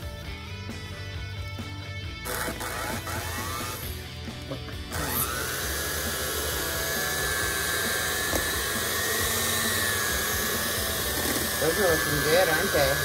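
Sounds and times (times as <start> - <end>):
electric hand mixer whine: 2.2 - 13.0.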